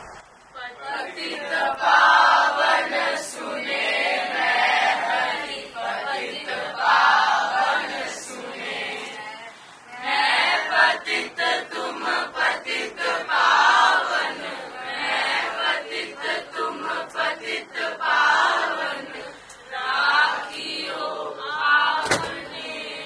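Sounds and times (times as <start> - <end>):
young voices singing devotional song: 0.0 - 23.0.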